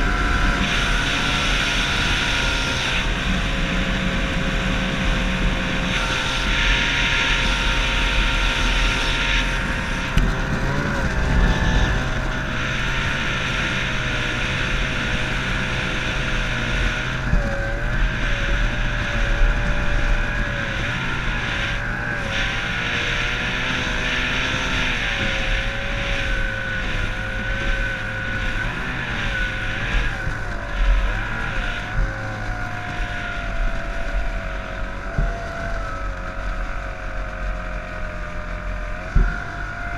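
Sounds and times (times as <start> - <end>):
outboard engine wavering: 0.0 - 39.9
wind: 0.0 - 39.9.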